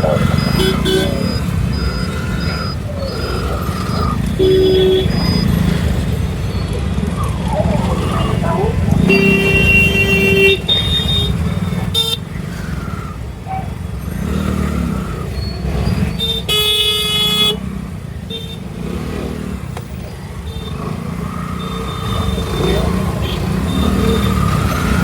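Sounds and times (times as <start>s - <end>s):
vehicle horns honking: 0.0s - 6.8s, 7.9s - 12.8s, 15.4s - 19.2s, 20.3s - 25.0s
rumble of wind and traffic: 0.0s - 25.0s.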